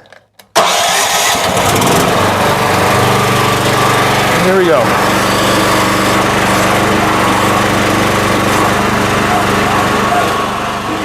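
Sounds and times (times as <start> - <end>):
small engine running: 0.6 - 11.0.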